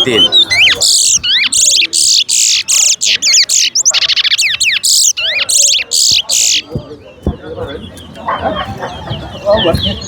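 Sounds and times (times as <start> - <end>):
finch singing warbled notes: 0.0 - 8.2.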